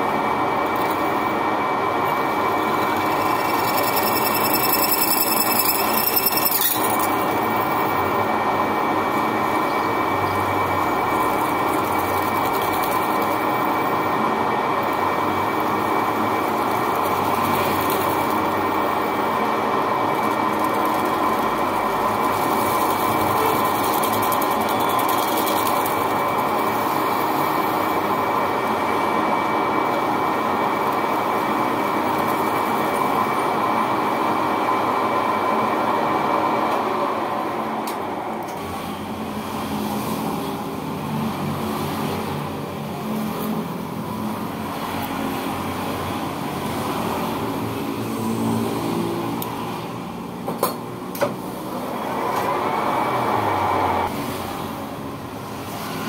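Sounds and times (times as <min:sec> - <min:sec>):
lathe running with high whine: 0:00.0 - 0:56.0.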